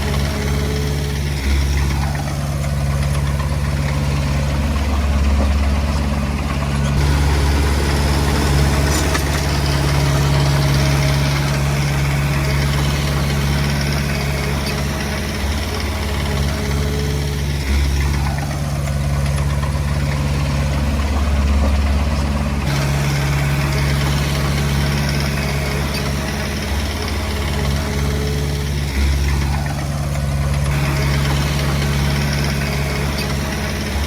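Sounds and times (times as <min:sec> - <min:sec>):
bulldozer diesel engine humming: 0:00.0 - 0:34.0.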